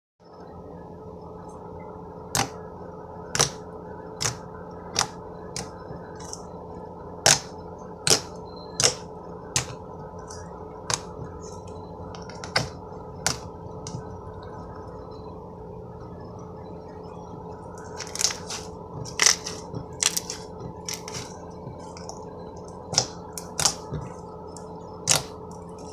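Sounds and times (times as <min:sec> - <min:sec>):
steady electrical hum: 0:00.2 - 0:25.9.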